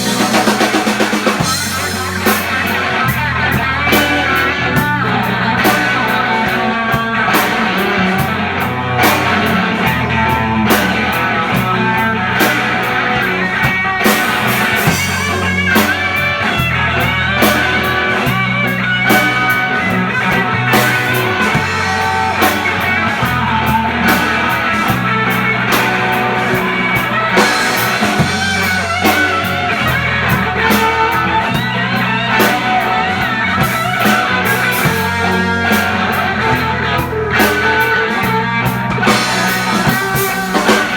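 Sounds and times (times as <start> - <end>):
bass guitar: 0.0 - 40.9
drum-kit beat: 0.0 - 40.9
electric guitar: 0.0 - 40.9.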